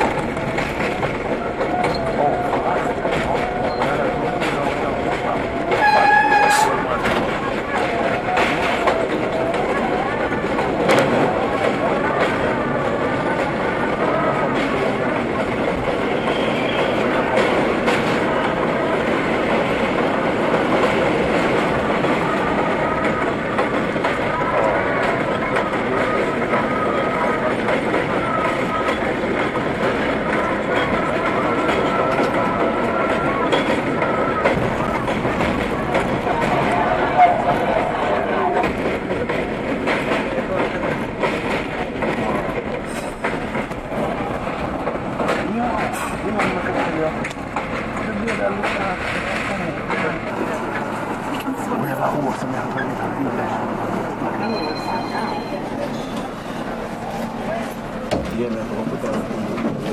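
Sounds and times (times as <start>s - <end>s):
rail joint click: 0.0s - 51.6s, 54.0s - 59.9s
subway wheels rumbling on rails: 0.0s - 59.9s.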